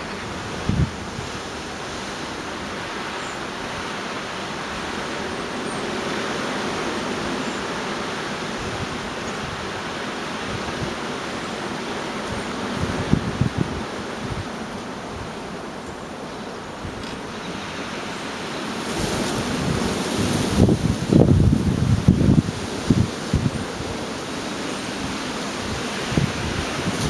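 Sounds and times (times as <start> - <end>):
gale-force wind rushing: 0.0 - 27.0
wind gusts thumping on microphone: 0.0 - 27.0.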